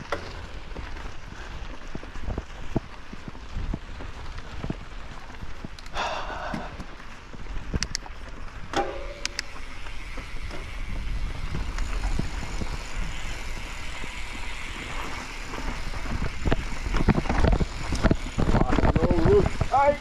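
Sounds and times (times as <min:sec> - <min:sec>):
bike clicks and rattles: 0:00.0 - 0:20.0
bike tyres rumbling on dirt: 0:00.0 - 0:20.0.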